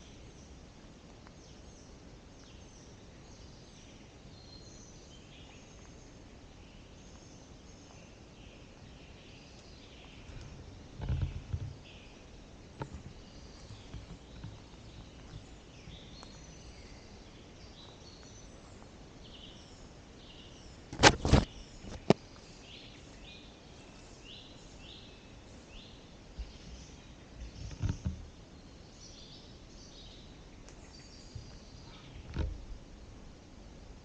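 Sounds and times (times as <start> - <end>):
birds singing: 0.0 - 34.0.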